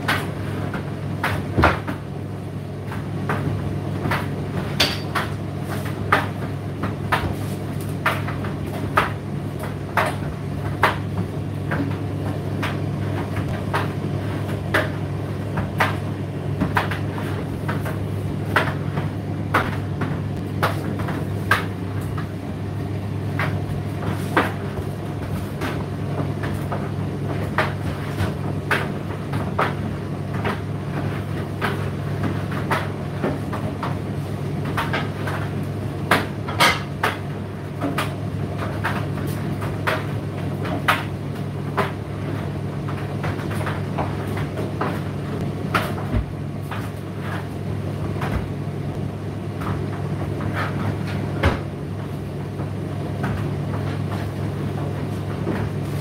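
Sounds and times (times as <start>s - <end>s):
load knocking in dryer drum: 0.0s - 56.0s
tumble dryer motor hum: 0.0s - 56.0s.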